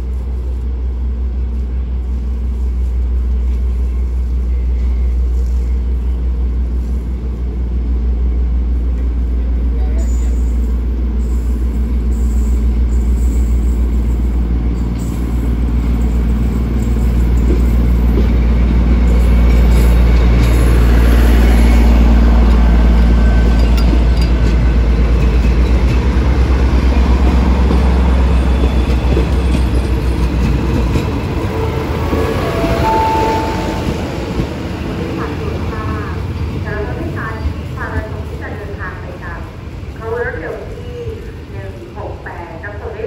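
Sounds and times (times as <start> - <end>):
diesel train engine humming: 0.0 - 43.0.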